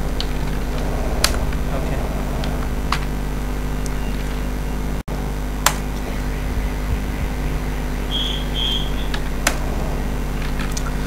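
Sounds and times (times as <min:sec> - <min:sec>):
low electrical hum with hiss: 0:00.0 - 0:11.0.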